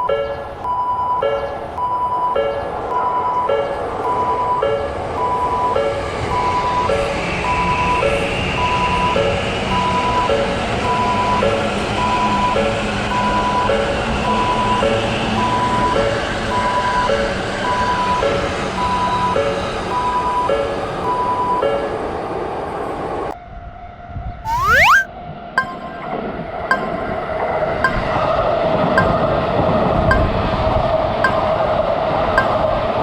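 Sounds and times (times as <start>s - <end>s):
railway crossing alarm ringing: 0.0s - 23.0s, 25.6s - 33.0s.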